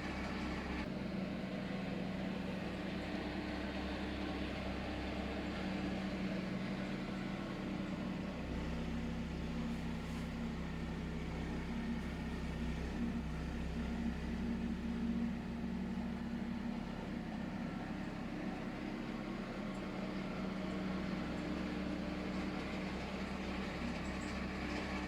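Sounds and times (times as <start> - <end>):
small tractor engine running: 0.0 - 25.0.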